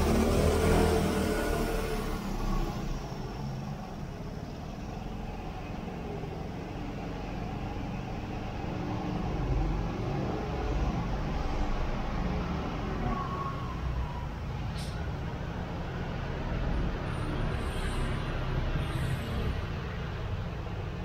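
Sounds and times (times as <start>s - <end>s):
city traffic: 0.0s - 21.0s
road noise rumble: 0.0s - 21.0s.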